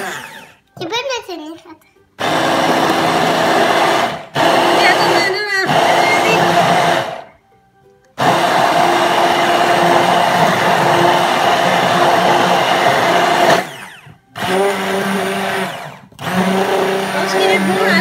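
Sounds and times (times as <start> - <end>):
stick blender motor running: 0.0 - 0.6, 2.2 - 7.3, 8.2 - 18.0.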